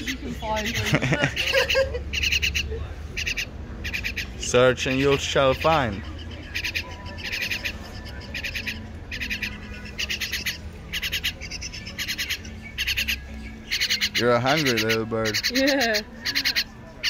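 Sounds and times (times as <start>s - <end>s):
baby bird rasping begging calls: 0.0s - 17.0s.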